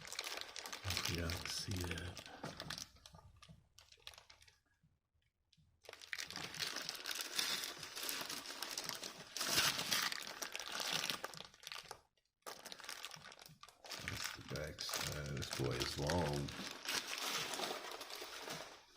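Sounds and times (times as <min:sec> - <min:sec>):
plastic packaging crinkling: 0:00.0 - 0:04.6, 0:05.8 - 0:18.9.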